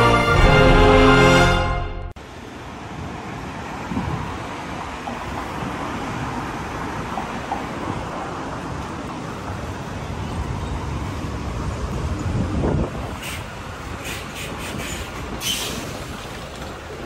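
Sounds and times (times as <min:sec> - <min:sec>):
bus engine: 0:00.0 - 0:17.0
cars driving past: 0:02.2 - 0:17.0.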